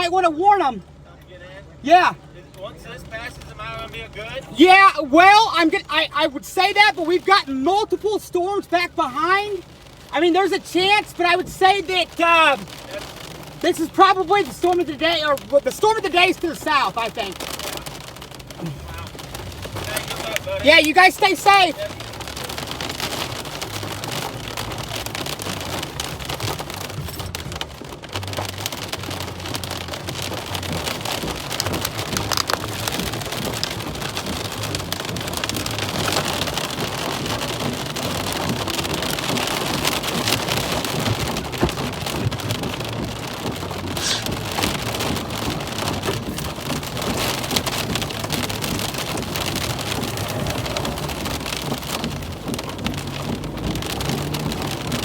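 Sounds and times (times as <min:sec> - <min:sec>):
heavy rain falling: 0:01.8 - 0:55.0.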